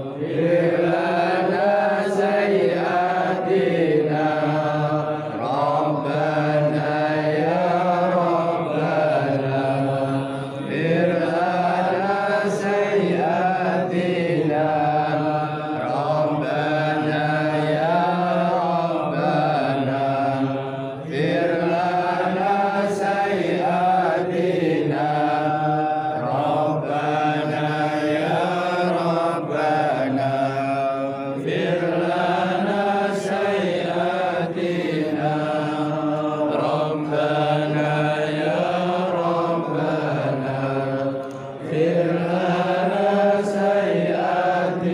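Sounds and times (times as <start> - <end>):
voices chanting in unison: 0.0 - 44.9.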